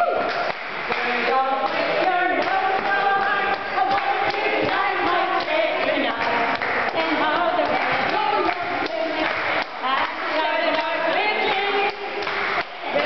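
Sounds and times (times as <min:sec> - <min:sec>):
hands clapping in time: 0:00.0 - 0:13.0
group singing unaccompanied: 0:00.8 - 0:13.0.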